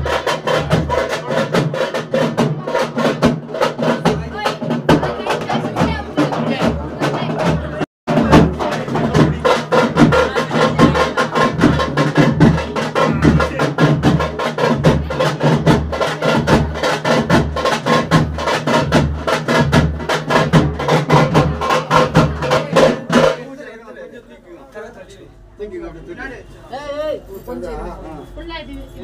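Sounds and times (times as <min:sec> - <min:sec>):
loud drumming: 0:00.0 - 0:23.8.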